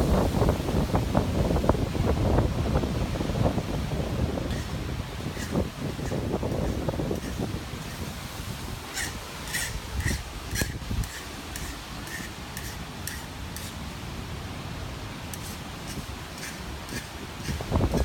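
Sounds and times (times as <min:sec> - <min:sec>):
hurricane wind hiss: 0:00.0 - 0:18.0.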